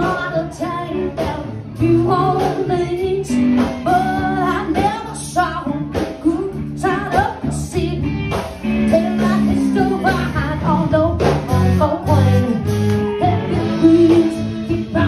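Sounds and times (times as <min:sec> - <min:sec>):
live band music: 0:00.0 - 0:15.0
woman singing lead: 0:00.0 - 0:15.0.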